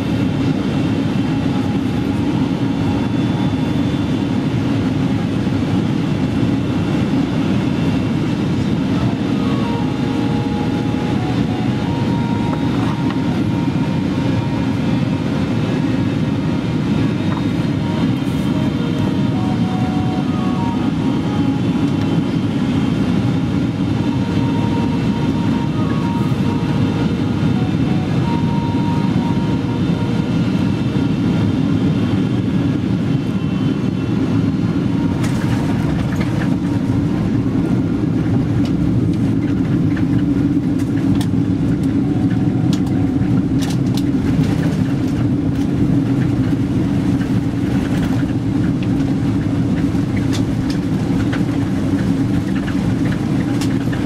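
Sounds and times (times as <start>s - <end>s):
aircraft engine rumble: 0.0s - 54.0s
faint engine whines: 0.0s - 54.0s.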